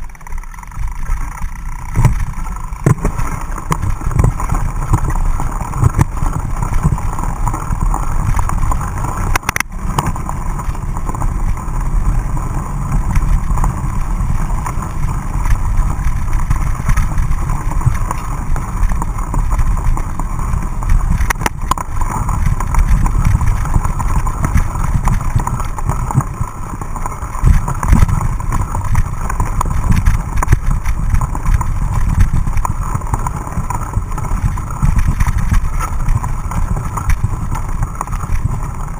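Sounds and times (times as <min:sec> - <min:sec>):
bike rattling on rough trail: 0:00.0 - 0:38.9
wind rumbling on microphone: 0:00.0 - 0:38.9.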